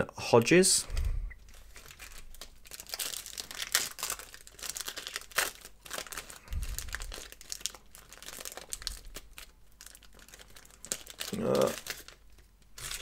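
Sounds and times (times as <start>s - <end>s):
foil wrapper crinkling and tearing: 1.4s - 13.0s.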